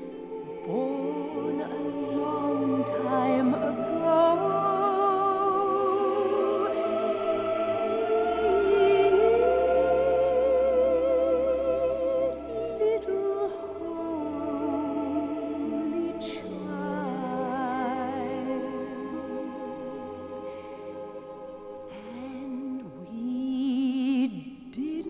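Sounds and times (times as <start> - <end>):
slow orchestral music: 0.0 - 24.2.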